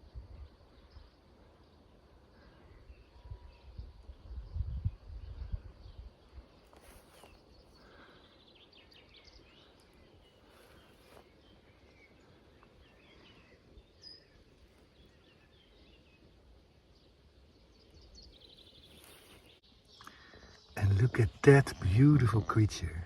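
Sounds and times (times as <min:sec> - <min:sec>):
distant bird chirps: 0:00.0 - 0:23.0.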